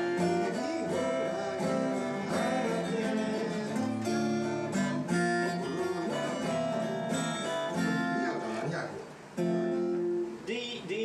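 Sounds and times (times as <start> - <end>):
acoustic guitars strumming chords: 0.0 - 11.0.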